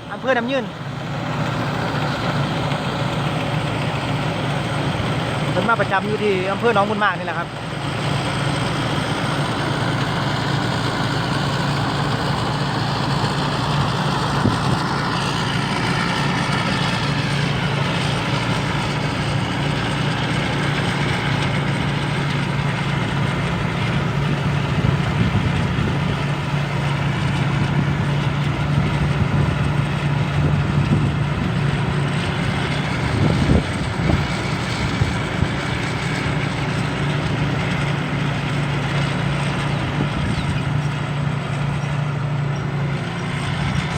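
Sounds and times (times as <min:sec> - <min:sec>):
diesel engine running steadily: 0:00.0 - 0:43.9
threshing machinery noise: 0:00.0 - 0:43.9.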